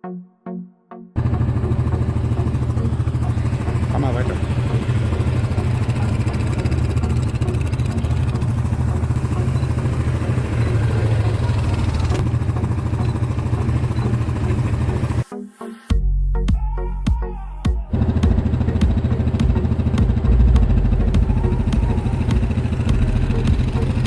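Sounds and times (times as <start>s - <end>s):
atv engine running: 1.2s - 15.2s, 17.9s - 24.0s.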